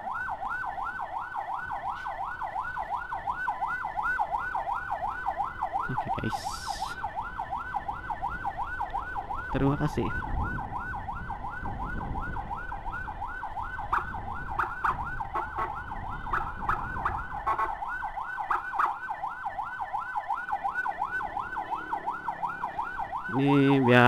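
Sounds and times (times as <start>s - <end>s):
emergency siren yelping: 0.0s - 24.0s
engine and traffic rumble: 0.0s - 24.0s.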